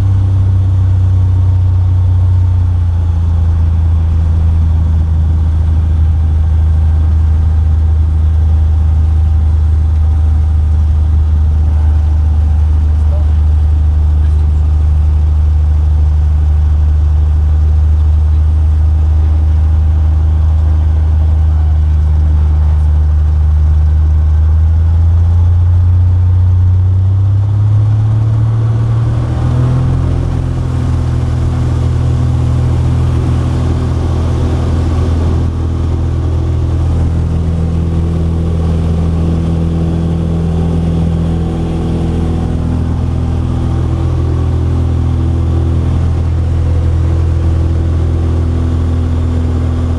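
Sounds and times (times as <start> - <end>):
propeller plane engine: 0.0 - 49.9.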